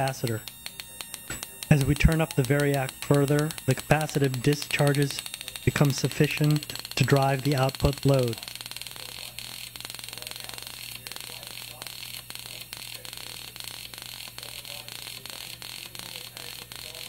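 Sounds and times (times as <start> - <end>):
crackling buzz of sparks: 0.0 - 17.0.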